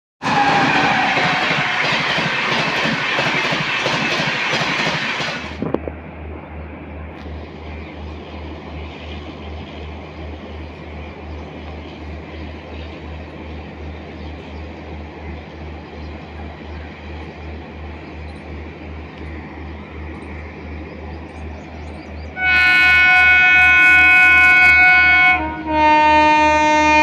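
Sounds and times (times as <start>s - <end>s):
distant approaching train: 0.2s - 27.0s.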